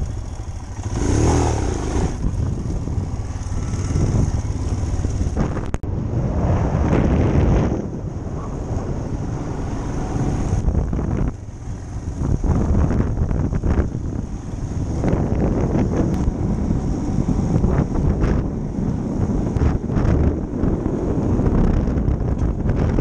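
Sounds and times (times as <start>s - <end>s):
motorcycle engine running: 0.0s - 6.0s, 7.1s - 23.0s
wind buffeting microphone: 0.0s - 23.0s.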